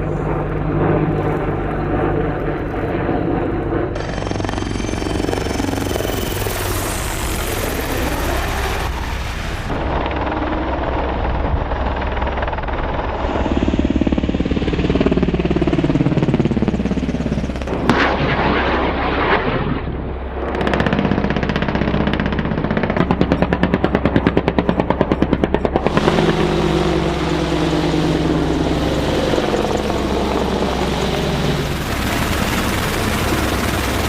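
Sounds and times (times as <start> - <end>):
helicopter rotor drone: 0.0 - 34.0.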